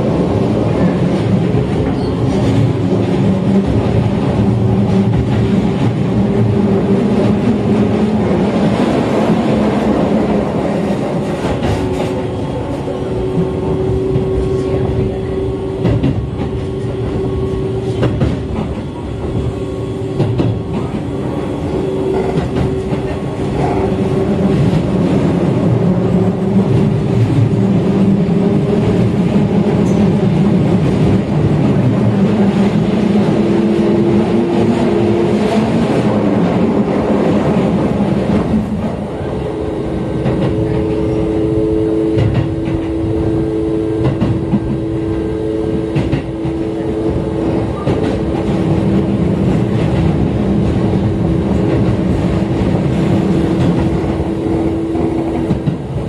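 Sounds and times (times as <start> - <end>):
rail clacks: 0.0 - 56.0
train wheel-on-rail rumble: 0.0 - 56.0.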